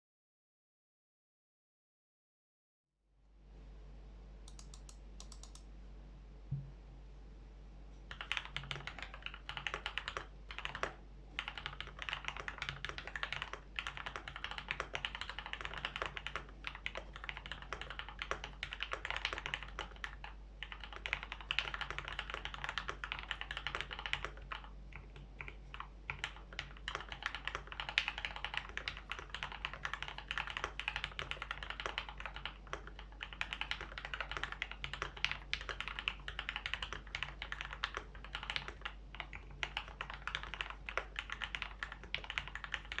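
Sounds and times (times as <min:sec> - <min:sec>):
mechanical keyboard typing: 0:04.5 - 0:05.6, 0:08.1 - 0:43.0.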